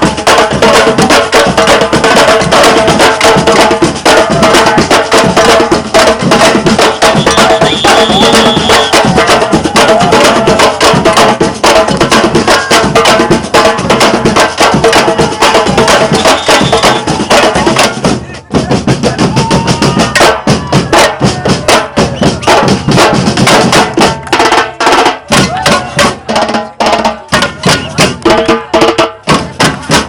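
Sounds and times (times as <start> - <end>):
samba percussion drumming: 0.0 - 30.0.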